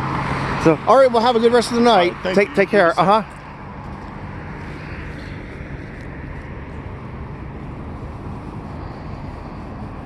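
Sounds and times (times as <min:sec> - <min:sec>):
outdoor background rumble: 0:00.0 - 0:10.0.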